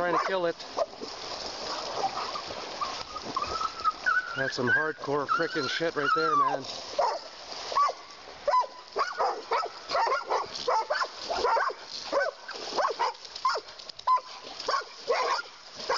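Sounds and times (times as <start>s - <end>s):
dogs yelping and barking: 1.9s - 15.9s.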